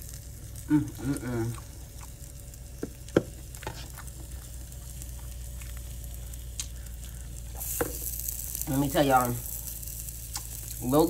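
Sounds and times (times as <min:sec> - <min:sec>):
shrimp sizzling in a pan: 0:01.8 - 0:11.0.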